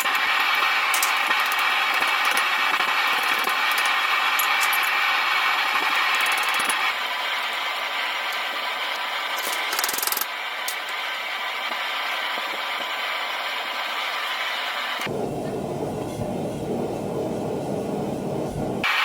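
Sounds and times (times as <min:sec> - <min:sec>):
forge burner roaring: 0:00.0 - 0:19.0.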